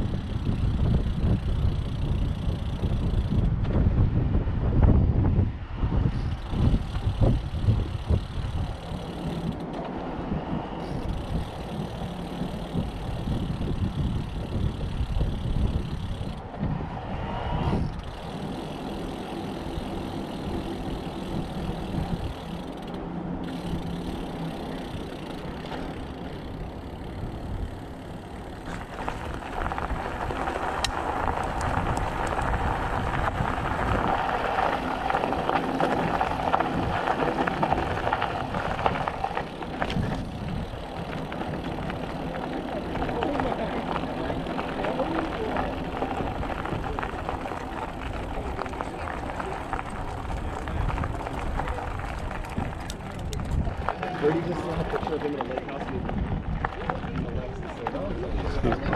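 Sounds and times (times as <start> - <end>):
bike rolling rumble: 0.0 - 58.9
wind buffeting microphone: 0.0 - 58.9.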